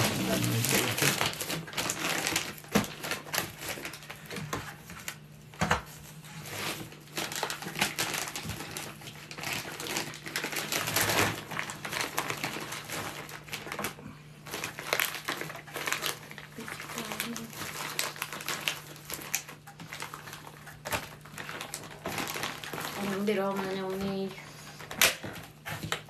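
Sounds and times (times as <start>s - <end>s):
plastic bags rustling: 0.0s - 26.0s.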